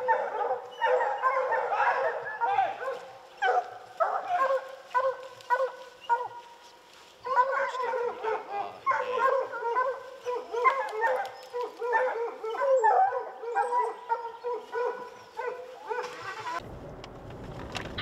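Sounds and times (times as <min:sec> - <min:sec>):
hounds barking and bawling: 0:00.0 - 0:16.6.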